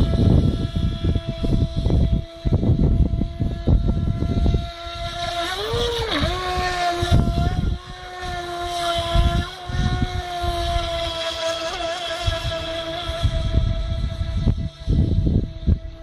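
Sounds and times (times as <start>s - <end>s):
toy boat motor whining: 0.0s - 16.0s
wind buffeting microphone: 0.0s - 16.0s.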